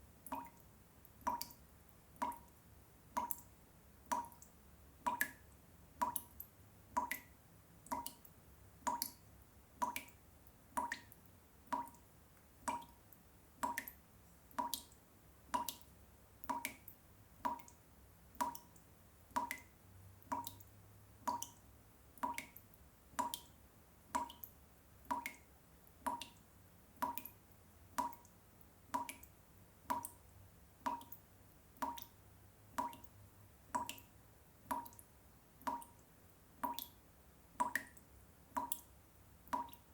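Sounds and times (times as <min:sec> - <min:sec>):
water dripping: 0:00.2 - 0:39.9.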